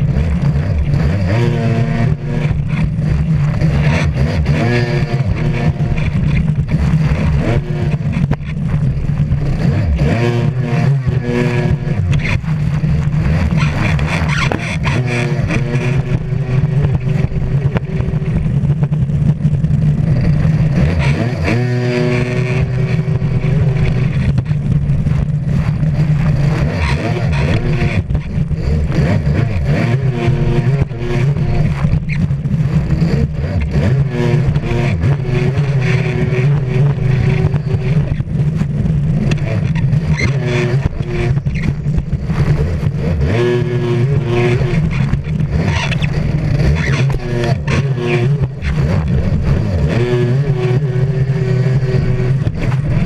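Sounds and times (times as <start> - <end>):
jet ski engine running hard: 0.0 - 53.0.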